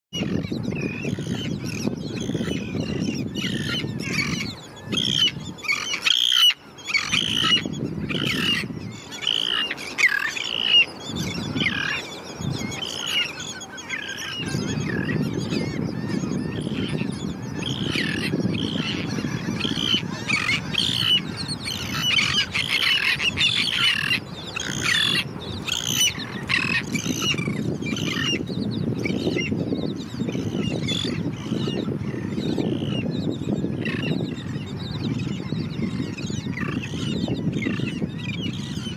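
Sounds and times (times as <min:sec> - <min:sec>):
seabirds calling harshly: 0:00.2 - 0:38.9.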